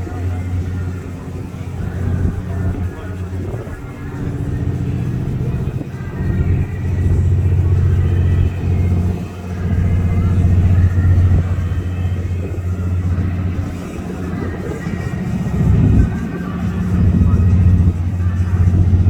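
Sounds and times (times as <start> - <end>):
faint background voices: 0.0 - 19.0
low rumble: 0.0 - 19.0.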